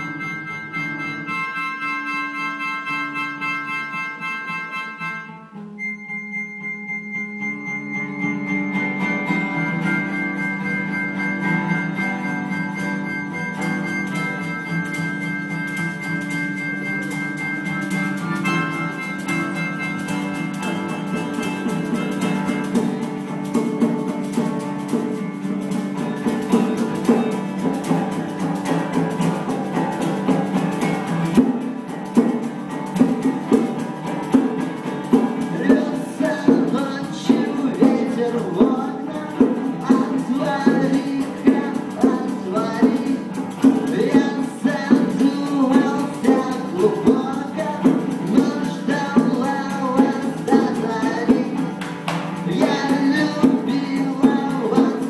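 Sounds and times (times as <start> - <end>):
harmonica chords: 0.0 - 55.0
strummed acoustic guitar: 0.0 - 55.0
bongos steady beat: 7.0 - 55.0.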